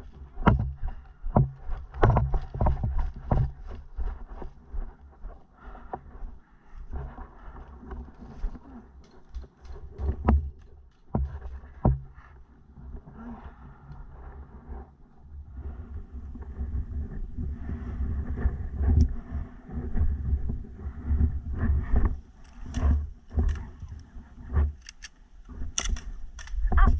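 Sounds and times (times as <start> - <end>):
wind and handling noise: 0.0 - 26.9.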